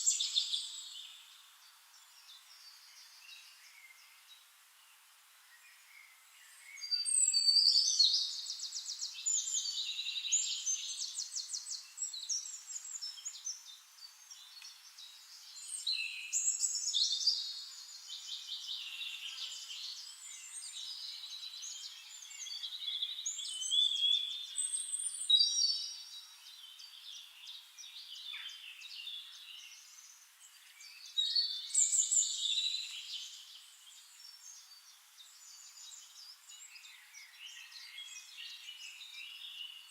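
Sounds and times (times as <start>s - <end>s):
songbird trilling and chirping: 6.6s - 39.9s.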